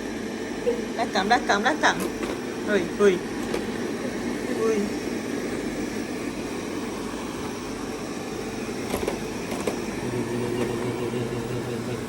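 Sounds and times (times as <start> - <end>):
robot vacuum humming: 0.0 - 12.0.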